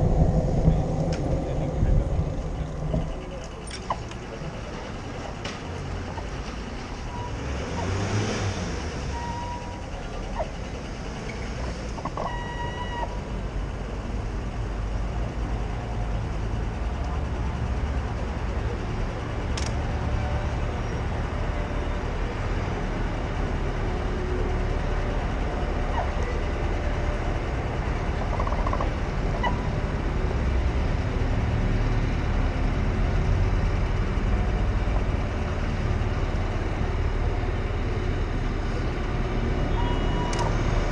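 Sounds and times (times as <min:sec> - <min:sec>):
passing vehicles rumble: 0:00.0 - 0:40.9.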